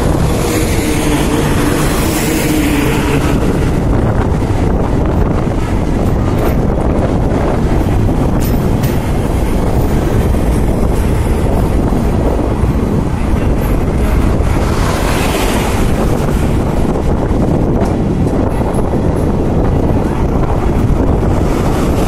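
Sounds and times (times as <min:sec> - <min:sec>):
train wheels rumbling on rails: 0:00.0 - 0:22.0
wind buffeting microphone: 0:00.0 - 0:22.0.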